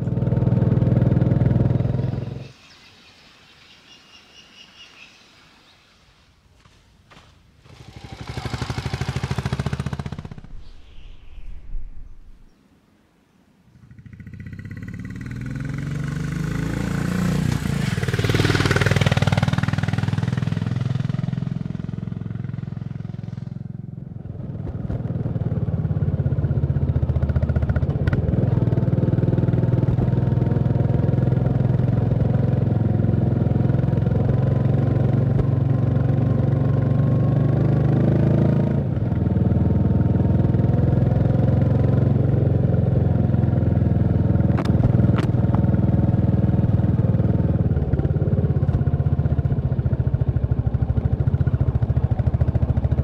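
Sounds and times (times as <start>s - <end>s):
motorcycle engine running: 0.0s - 2.5s, 7.1s - 12.5s, 13.8s - 53.0s.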